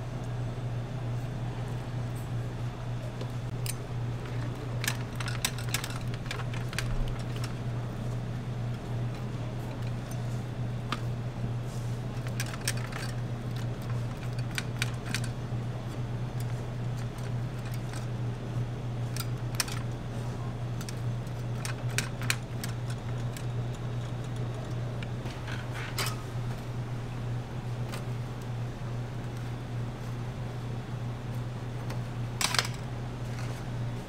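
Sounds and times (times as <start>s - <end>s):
low fan hum: 0.0s - 34.0s.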